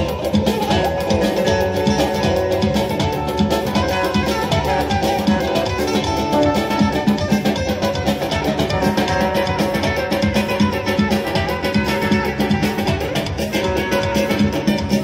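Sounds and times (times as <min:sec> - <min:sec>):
electric guitar fast melody: 0:00.0 - 0:15.0
hand-beaten frame drum rhythm: 0:00.0 - 0:15.0
keyboard: 0:00.0 - 0:15.0.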